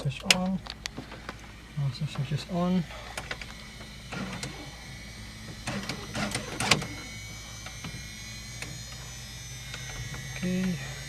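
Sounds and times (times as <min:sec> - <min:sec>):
electrical hum: 0:00.0 - 0:11.0
faint high whine: 0:00.0 - 0:11.0.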